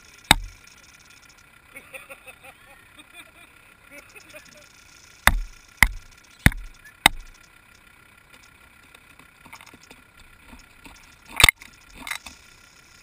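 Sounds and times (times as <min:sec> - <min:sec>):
rattlesnake rattling: 0:00.0 - 0:01.8, 0:03.8 - 0:13.0.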